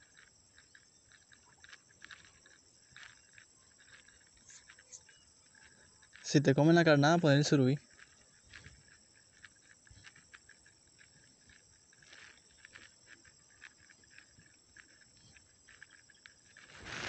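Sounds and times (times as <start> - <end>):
faint insect chirring: 0.0 - 17.0
faint ticks: 0.0 - 17.0.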